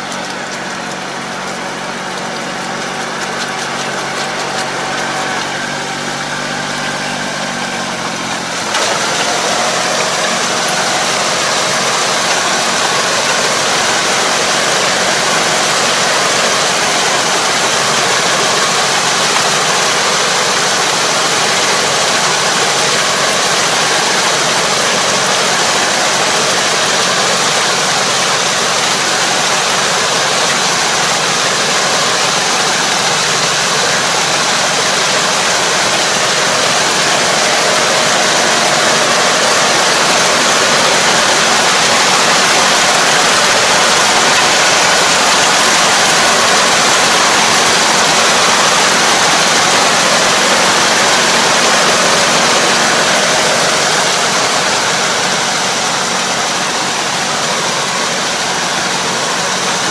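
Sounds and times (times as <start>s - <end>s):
tractor engine running: 0.0s - 59.9s
water churned by harrow rotor: 0.0s - 59.9s.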